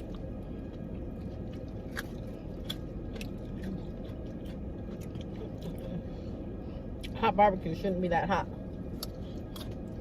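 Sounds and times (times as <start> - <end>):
chewing crunchy fried chicken: 0.0 - 7.2, 8.6 - 10.0.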